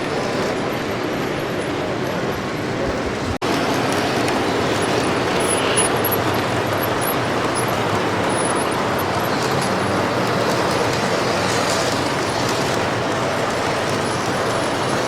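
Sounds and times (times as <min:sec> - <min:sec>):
model trains running: 0:00.0 - 0:15.0.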